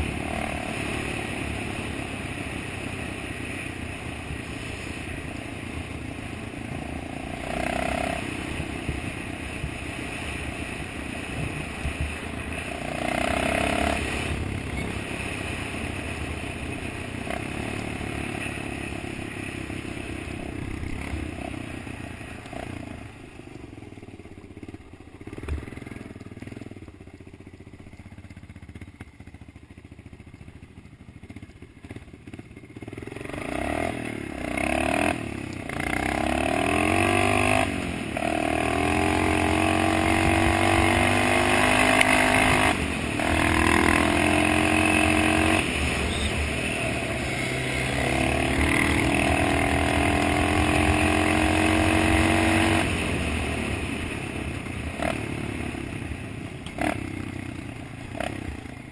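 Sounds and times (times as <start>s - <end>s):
dirt bike engine accelerating: 0.0s - 58.9s.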